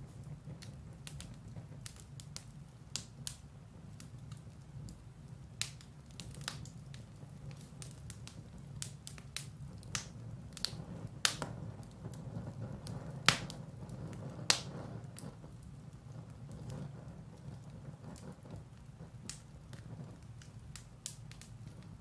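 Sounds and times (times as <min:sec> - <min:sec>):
firewood crackling and popping: 0:00.0 - 0:22.0
low steady rumble: 0:00.0 - 0:22.0.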